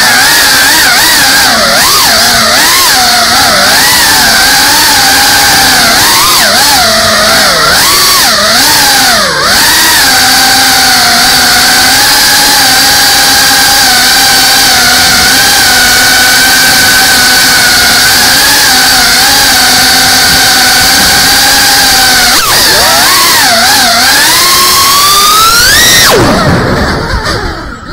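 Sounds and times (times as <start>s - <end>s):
drone propellers whining: 0.0s - 27.9s.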